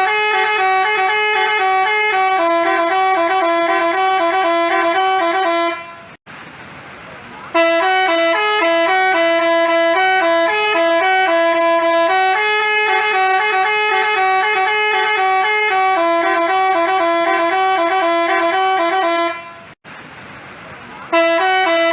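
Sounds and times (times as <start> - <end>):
bus horn playing a tune: 0.0 - 6.2, 7.5 - 19.8, 21.1 - 21.9.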